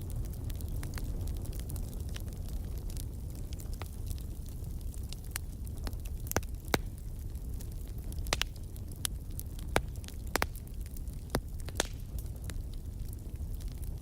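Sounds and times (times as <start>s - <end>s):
burning logs popping: 0.0s - 14.0s
flames rumbling: 0.0s - 14.0s.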